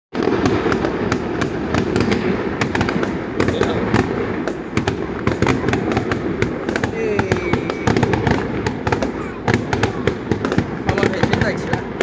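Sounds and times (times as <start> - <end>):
fireworks crackling: 0.2 - 12.0.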